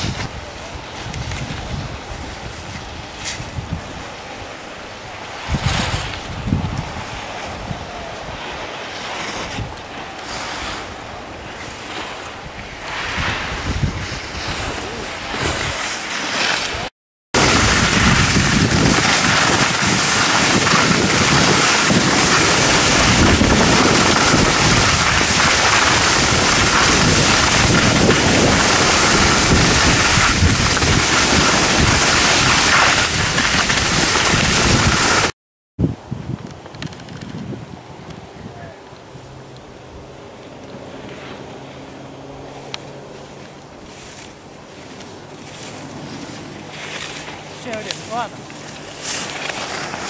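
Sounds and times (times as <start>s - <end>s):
snow noise: 0.0s - 38.8s, 39.7s - 50.0s
wind rushing over microphone: 0.0s - 50.0s.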